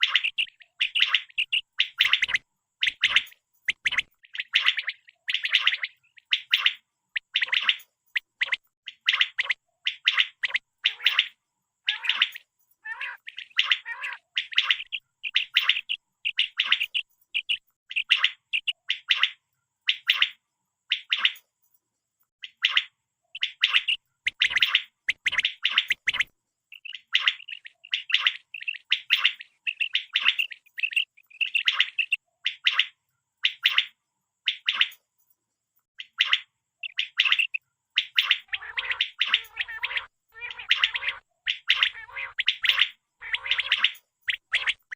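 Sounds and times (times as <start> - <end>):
quail calling: 0.0 - 21.4, 22.4 - 33.9, 36.0 - 44.9.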